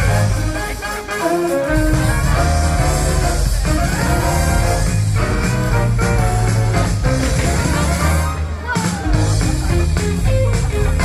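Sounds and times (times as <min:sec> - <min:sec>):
brass and orchestra music: 0:00.0 - 0:11.0
heavy bass line: 0:00.0 - 0:11.0.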